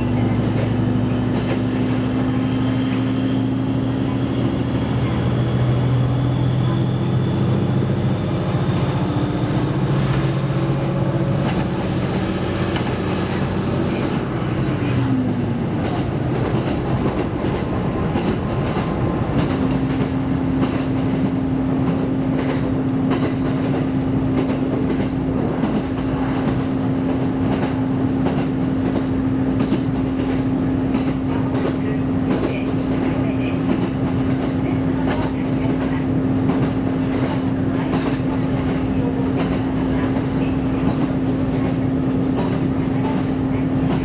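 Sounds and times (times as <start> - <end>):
diesel railcar engine drone: 0.0 - 44.0.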